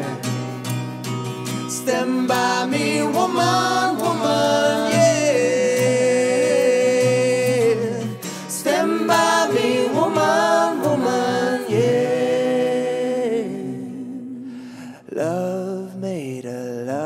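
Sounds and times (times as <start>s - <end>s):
voices singing in harmony: 1.7s - 15.7s.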